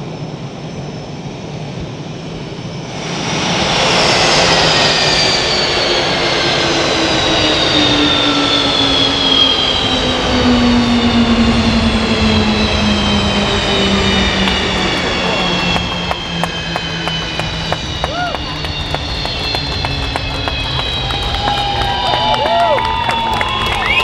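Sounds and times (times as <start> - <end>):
jet engines winding down: 0.0 - 24.0.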